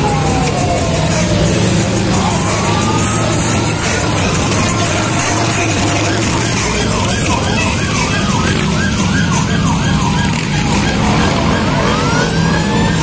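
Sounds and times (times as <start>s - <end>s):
motorcycle engines running: 0.0s - 13.0s
siren yelping and wailing: 0.0s - 13.0s.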